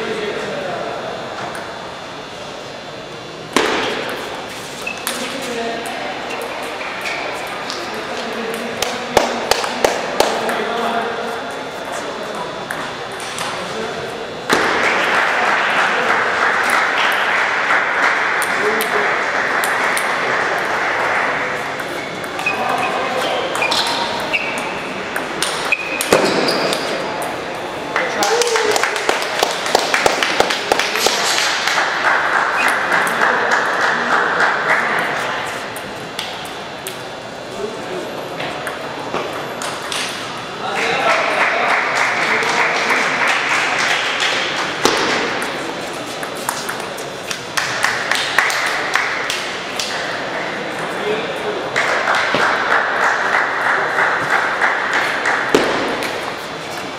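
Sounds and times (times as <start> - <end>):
murmur of busy hall: 0.0 - 56.9.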